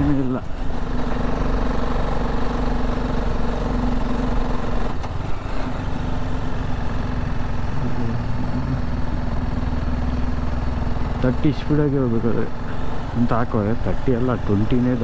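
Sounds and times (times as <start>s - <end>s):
motorcycle engine pulling uphill: 0.0s - 15.0s.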